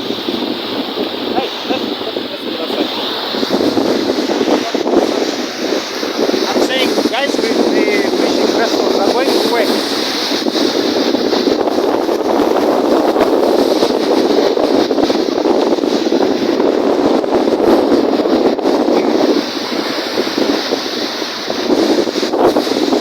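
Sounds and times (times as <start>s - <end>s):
lake waves: 0.0s - 23.0s
strong wind buffeting microphone: 0.0s - 23.0s.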